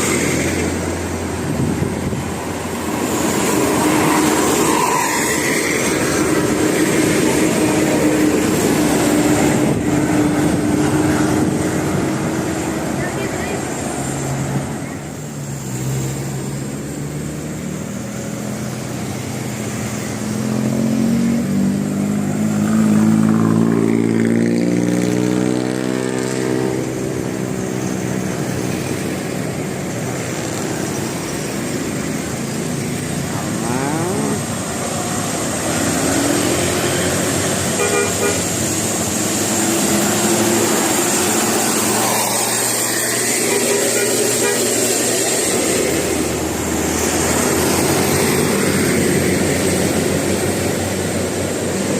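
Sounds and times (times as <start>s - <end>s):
bus engine running: 0.0s - 23.6s, 24.4s - 51.9s
road noise: 0.0s - 51.9s.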